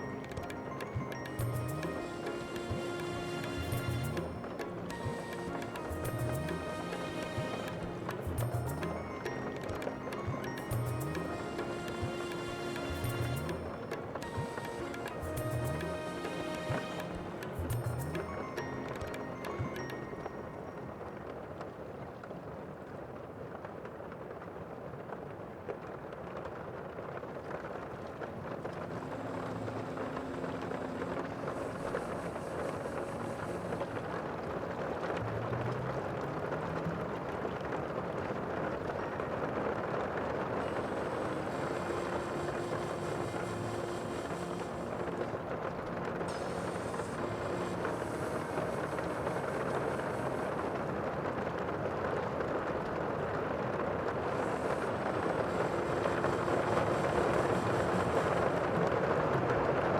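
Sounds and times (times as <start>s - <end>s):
sea water rushing: 0.0s - 21.9s, 28.4s - 59.9s.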